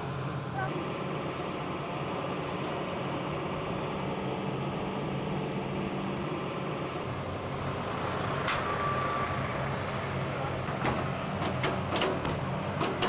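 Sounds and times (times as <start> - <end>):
excavator diesel engine running: 0.0 - 13.0
outdoor background noise: 0.0 - 13.0.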